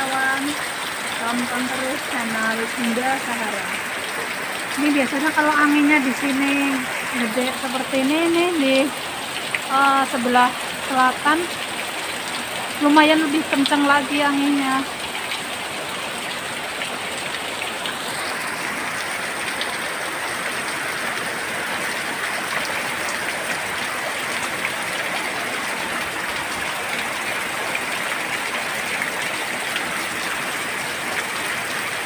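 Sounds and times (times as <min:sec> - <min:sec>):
heavy rain splashing on leaves: 0:00.0 - 0:32.0.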